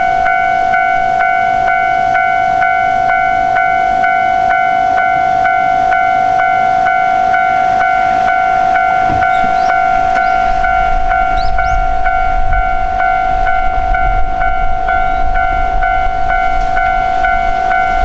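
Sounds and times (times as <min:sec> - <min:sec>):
level crossing bell ringing: 0:00.0 - 0:18.0.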